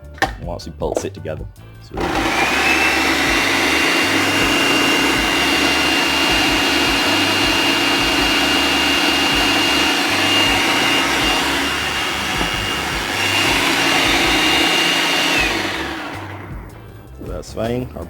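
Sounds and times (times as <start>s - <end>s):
blender motor whine: 2.0s - 17.1s.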